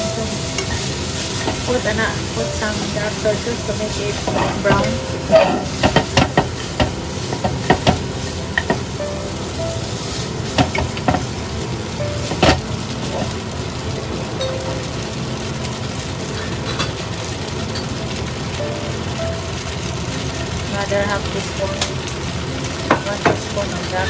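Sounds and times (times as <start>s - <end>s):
noodles and meat sizzling in pot: 0.0s - 24.0s.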